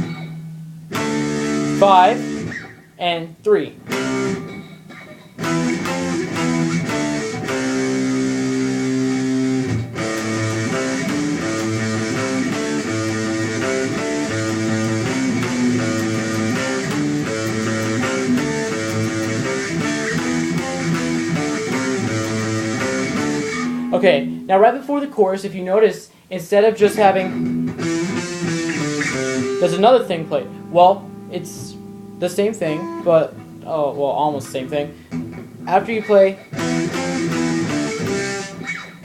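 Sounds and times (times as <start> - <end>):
electric guitar rock riff: 0.0 - 3.0, 3.6 - 24.7, 26.8 - 39.0.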